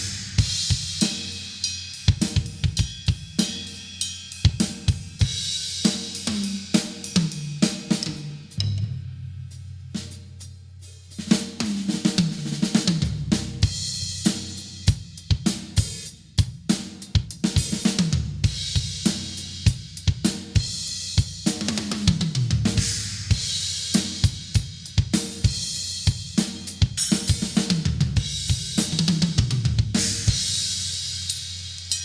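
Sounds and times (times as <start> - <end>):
drum kit playing: 0.0 - 32.0.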